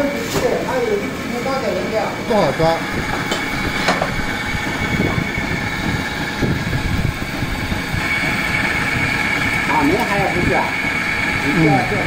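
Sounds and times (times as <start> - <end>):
machinery drone with high whine: 0.0 - 12.0.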